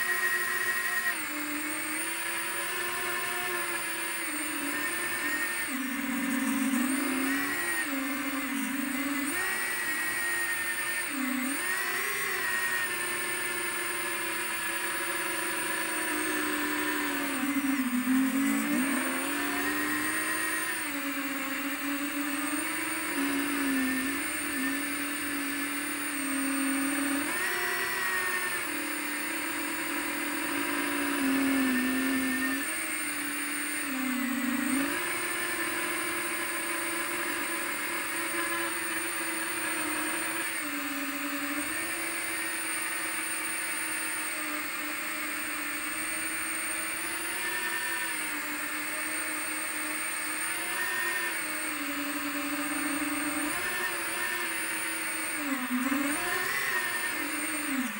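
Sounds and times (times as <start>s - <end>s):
quadcopter motors whining: 0.0s - 57.9s.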